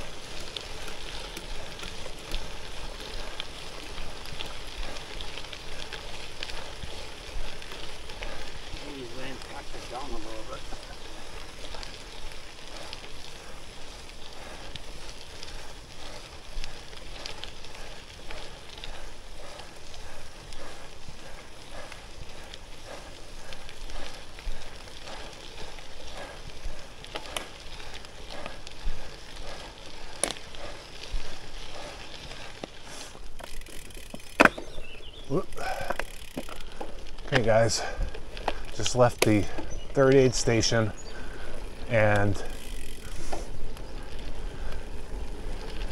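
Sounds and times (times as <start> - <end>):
bike clicks and rattles: 0.0 - 45.9
tyres crunching on gravel: 0.0 - 45.9.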